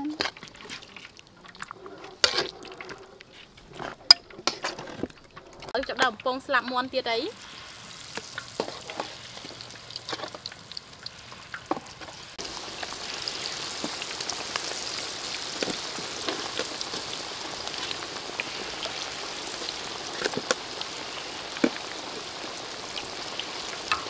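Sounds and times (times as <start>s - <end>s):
chicken deep-frying in oil: 3.6s - 24.0s.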